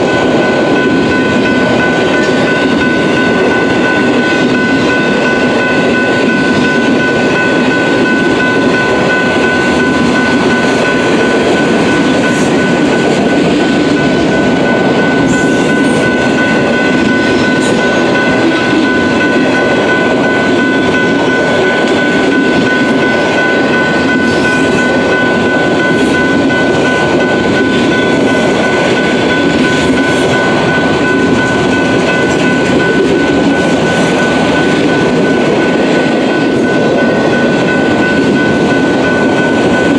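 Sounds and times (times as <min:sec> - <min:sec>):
high ringing tone: 0:00.0 - 0:39.9
train wheels rolling on rail: 0:00.0 - 0:39.9.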